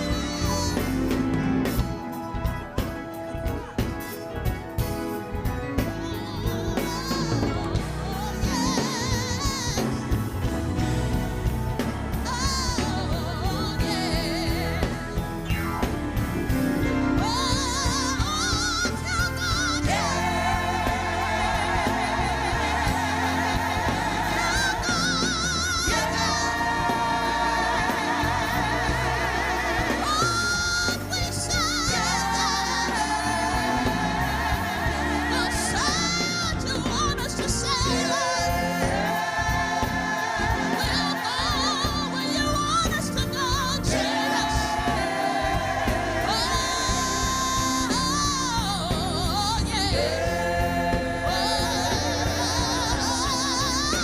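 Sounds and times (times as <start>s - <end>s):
gospel singing with accompaniment: 0.0s - 54.0s.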